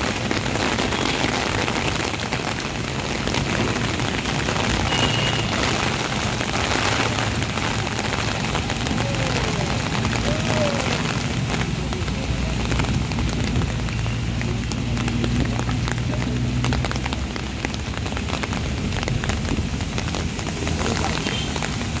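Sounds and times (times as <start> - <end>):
heavy rain on wet road: 0.0 - 22.0
passing traffic hum: 0.0 - 22.0.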